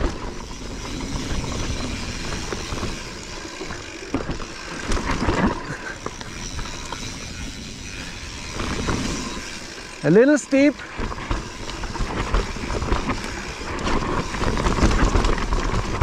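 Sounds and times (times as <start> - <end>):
bike knocks and rattles: 0.0 - 16.0
bike tyre noise on dirt: 0.0 - 16.0.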